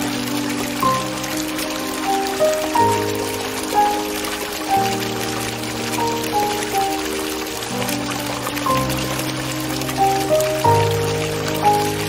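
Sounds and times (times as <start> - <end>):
background music of held notes: 0.0 - 12.0
hiss of flowing water: 0.0 - 12.0.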